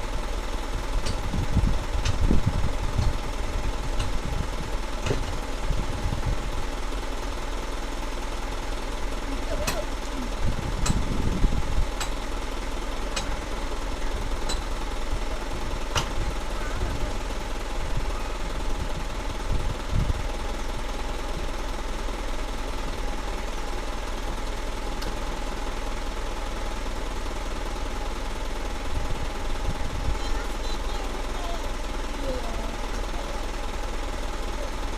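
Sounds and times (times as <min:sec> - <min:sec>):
diesel engine rumbling: 0:00.0 - 0:34.9.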